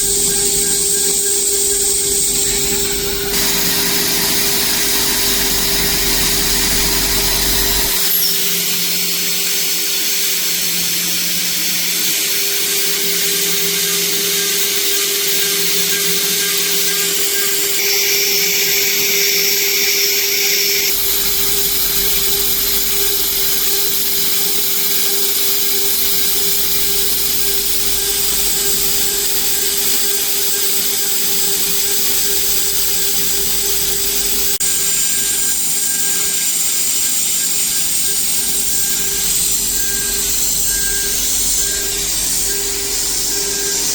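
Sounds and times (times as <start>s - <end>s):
cnc router machining metal: 0.0s - 43.9s.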